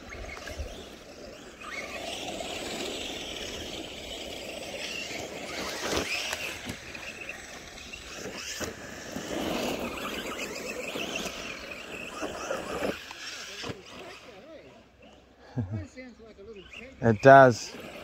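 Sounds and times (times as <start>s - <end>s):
electric motor whine: 0.0s - 15.2s.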